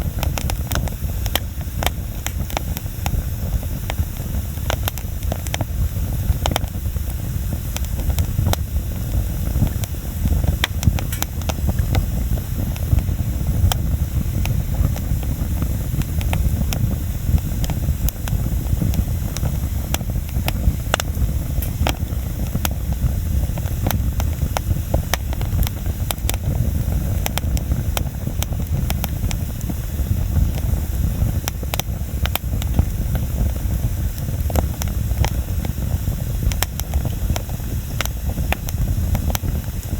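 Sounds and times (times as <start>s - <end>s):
bonfire crackling and popping: 0.0s - 39.9s
low fire rumble: 0.0s - 39.9s.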